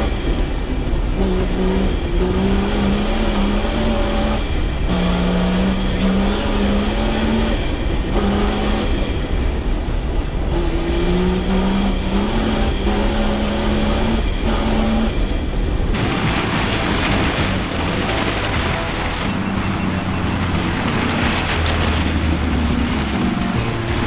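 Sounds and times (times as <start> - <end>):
off-road car engine running hard: 0.0 - 24.0.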